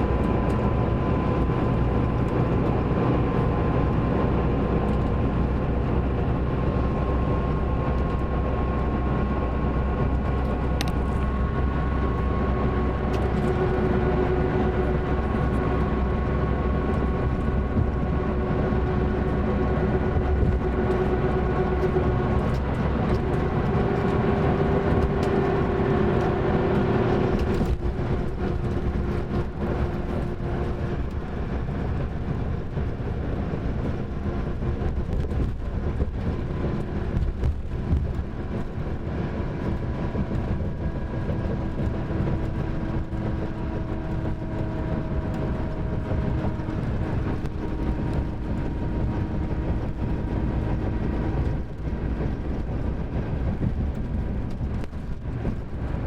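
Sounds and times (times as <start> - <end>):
diesel coach engine droning: 0.0 - 56.0.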